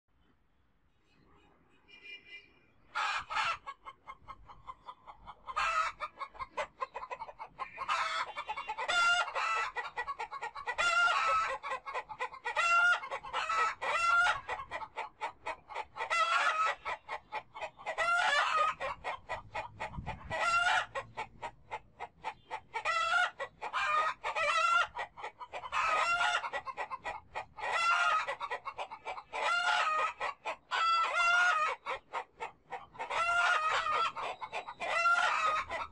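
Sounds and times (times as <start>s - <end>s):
chickens clucking: 2.8s - 35.9s
loud chicken calls: 2.8s - 35.9s.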